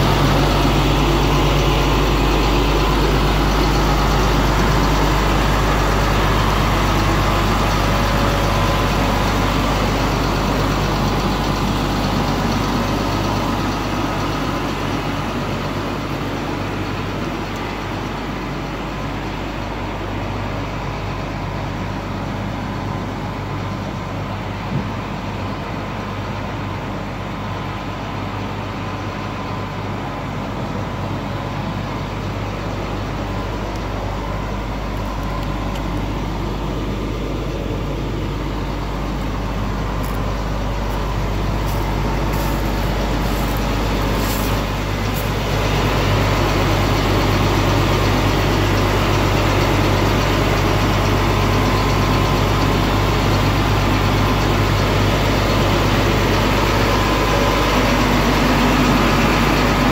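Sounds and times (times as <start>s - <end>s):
truck engine humming: 0.0s - 59.9s.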